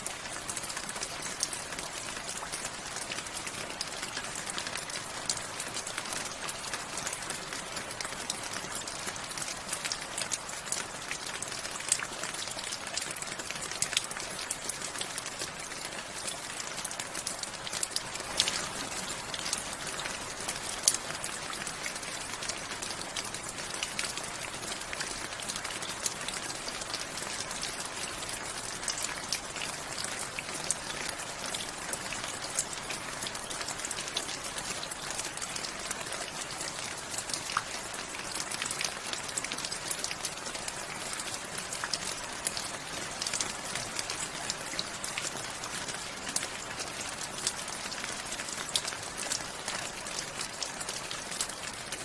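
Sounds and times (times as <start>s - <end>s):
raindrops pattering on a surface: 0.0s - 52.0s
steady rainfall: 0.0s - 52.0s.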